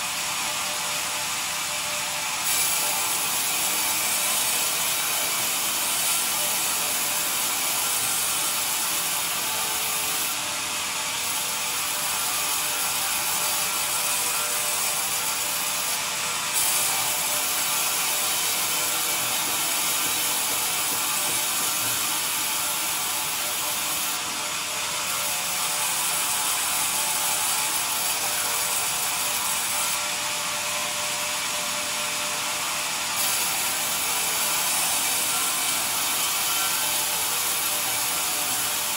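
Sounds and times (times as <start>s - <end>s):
band saw cutting wood: 0.0s - 38.9s.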